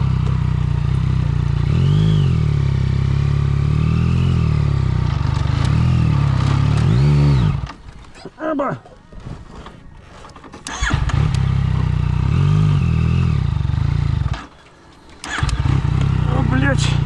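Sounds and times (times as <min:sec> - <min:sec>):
motorcycle engine throttle blips: 0:00.0 - 0:07.9, 0:10.6 - 0:17.0.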